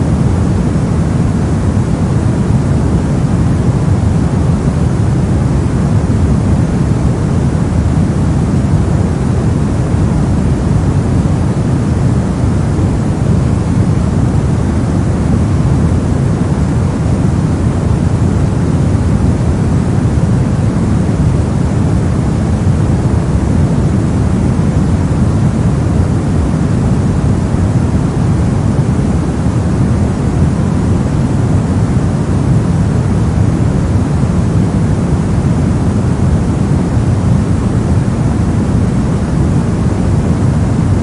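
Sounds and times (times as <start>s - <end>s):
deep rumbling brown noise: 0.0s - 41.0s.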